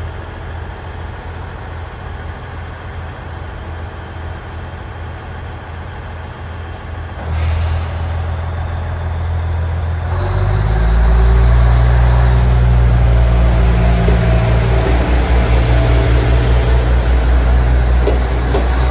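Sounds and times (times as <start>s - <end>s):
diesel railcar engine: 0.0s - 18.9s.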